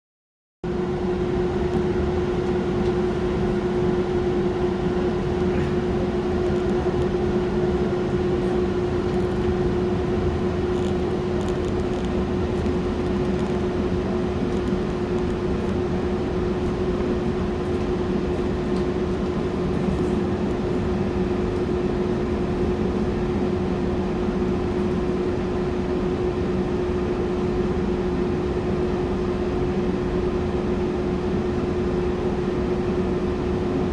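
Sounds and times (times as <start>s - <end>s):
train car equipment hum: 0.6s - 33.9s.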